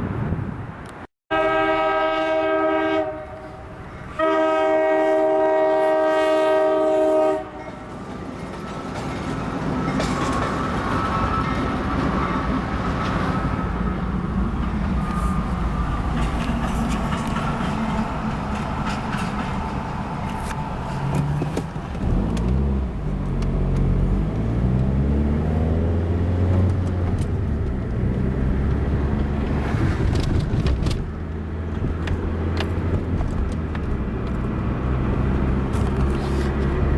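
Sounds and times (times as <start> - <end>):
diesel locomotive engine rumble: 0.0 - 36.9.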